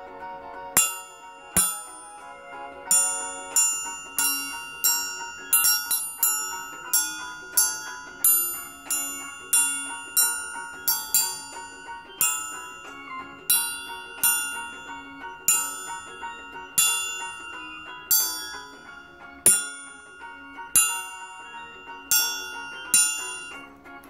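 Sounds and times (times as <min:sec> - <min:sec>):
triangle struck with beater: 0:00.8 - 0:23.8.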